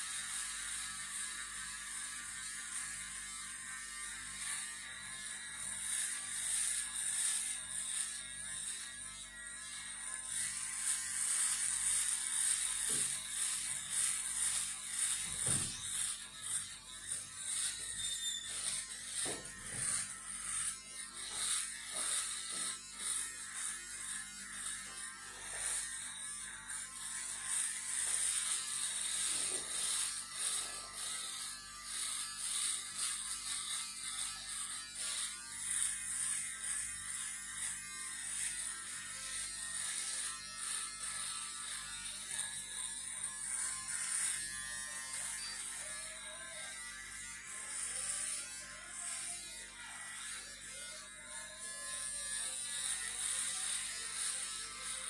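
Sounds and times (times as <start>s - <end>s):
electric shaver buzzing: 0.0s - 55.0s.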